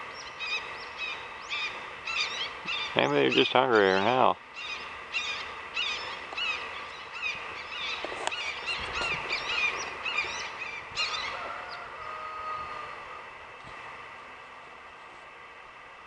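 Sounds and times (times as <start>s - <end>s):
hawks calling: 0.0s - 13.3s.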